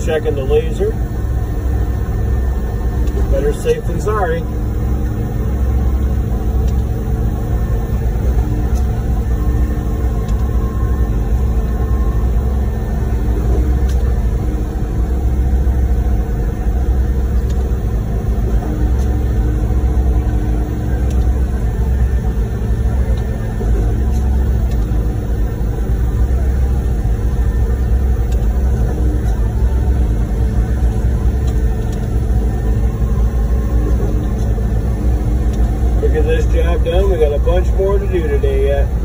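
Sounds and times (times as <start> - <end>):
concrete pump engine rumble: 0.0 - 39.0
steady hum: 0.0 - 39.0.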